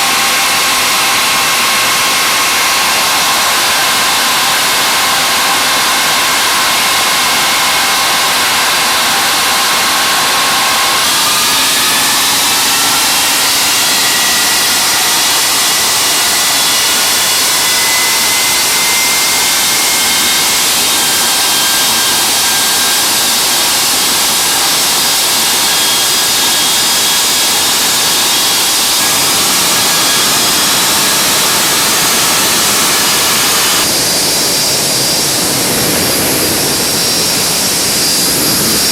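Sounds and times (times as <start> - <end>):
jet engines roaring and whining: 0.0 - 38.9.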